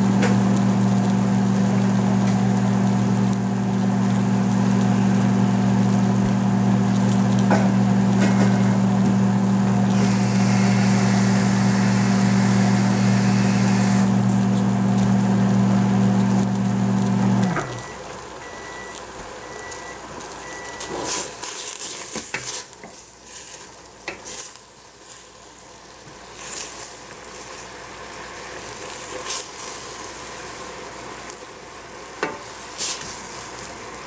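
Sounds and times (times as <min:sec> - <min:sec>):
vegetables sizzling in a pot: 0:00.0 - 0:34.0.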